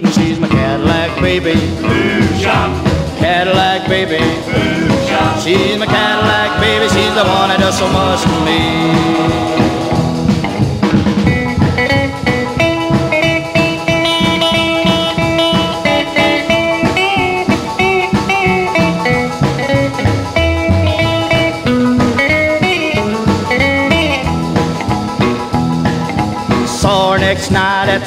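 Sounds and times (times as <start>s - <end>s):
bass: 0.0s - 28.0s
drums steady beat: 0.0s - 28.0s
lead guitar bending notes: 0.9s - 24.5s.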